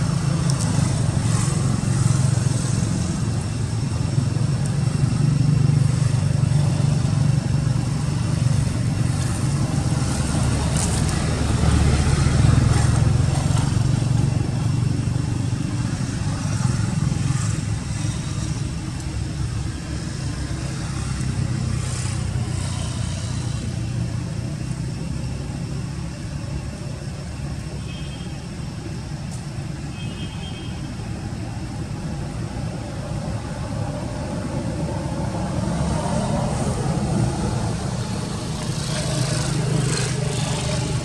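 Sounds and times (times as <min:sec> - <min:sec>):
low rumble of road traffic: 0:00.0 - 0:41.0.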